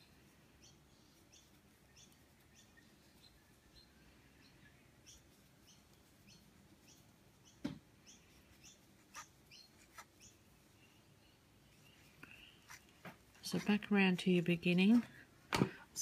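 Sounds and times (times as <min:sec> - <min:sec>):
bird chirping faintly: 0:00.0 - 0:15.2.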